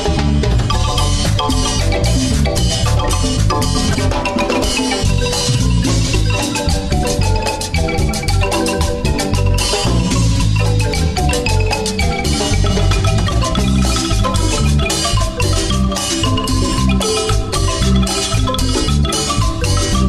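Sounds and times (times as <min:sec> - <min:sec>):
bass line: 0:00.0 - 0:20.0
marimba playing: 0:00.0 - 0:20.0
steady percussion beat: 0:00.0 - 0:20.0.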